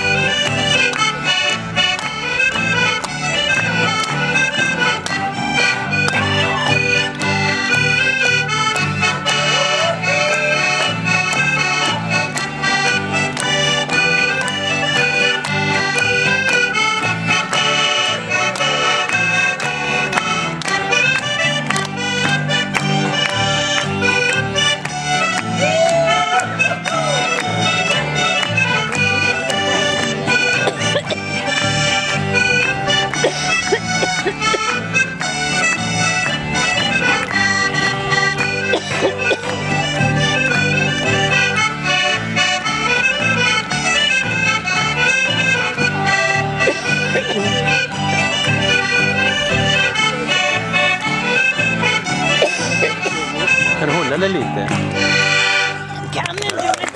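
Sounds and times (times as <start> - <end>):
button accordion playing: 0.0 - 56.9
small band with bass beat: 0.0 - 56.9.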